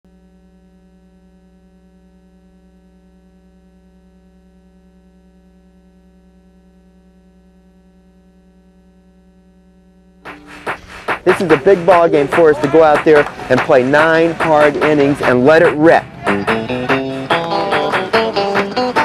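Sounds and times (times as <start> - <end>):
electrical mains hum: 0.1 - 19.0.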